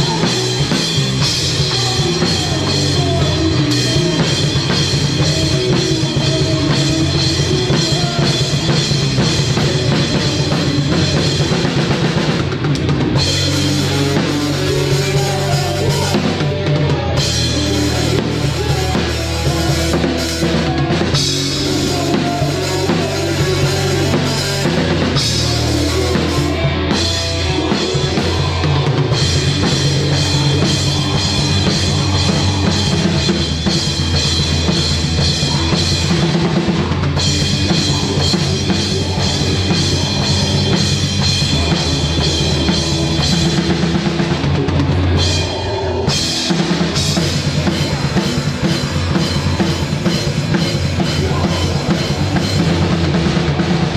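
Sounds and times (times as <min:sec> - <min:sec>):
bass drum: 0:00.0 - 0:53.9
bass guitar: 0:00.0 - 0:53.9
electric guitars: 0:00.0 - 0:53.9.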